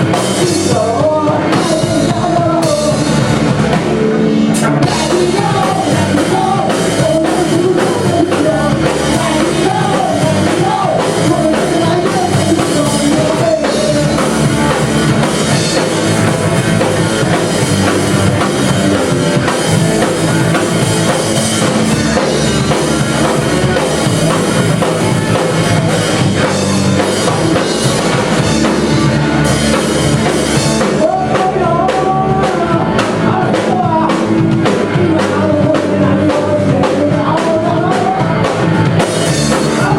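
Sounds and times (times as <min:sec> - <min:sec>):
drum kit: 0:00.0 - 0:39.9
live rock band playing: 0:00.0 - 0:39.9
person singing: 0:00.0 - 0:39.9.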